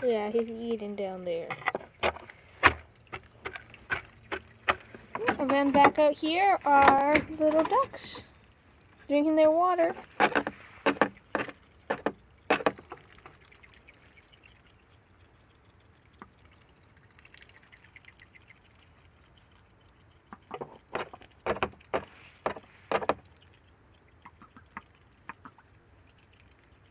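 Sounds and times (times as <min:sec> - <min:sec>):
ducks dabbling in water: 0:00.0 - 0:26.9.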